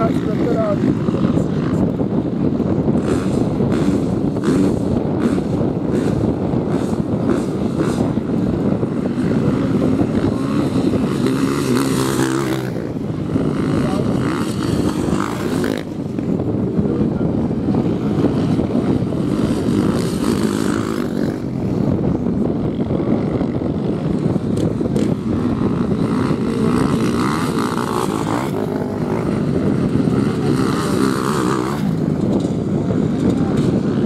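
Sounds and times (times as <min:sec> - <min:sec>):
motocross motorcycle engines racing: 0:00.0 - 0:34.0.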